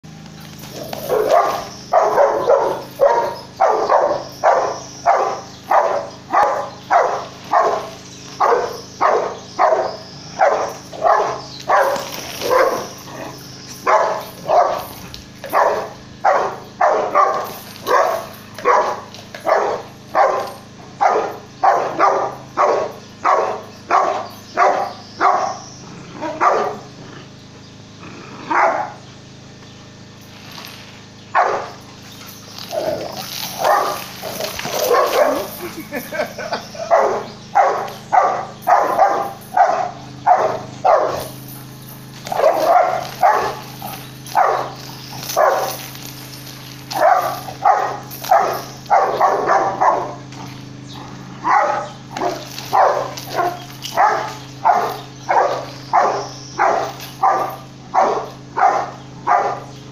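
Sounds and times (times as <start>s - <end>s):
dog barking: 0.8s - 13.0s, 13.8s - 26.9s, 28.5s - 29.0s, 31.3s - 31.8s, 33.6s - 35.5s, 36.1s - 43.6s, 44.3s - 45.8s, 46.9s - 50.8s, 51.4s - 59.8s.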